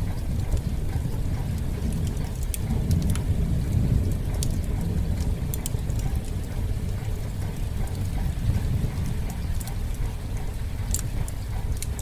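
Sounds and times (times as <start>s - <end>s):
heavy rain: 0.0s - 12.0s
thunder rumbling: 0.0s - 12.0s.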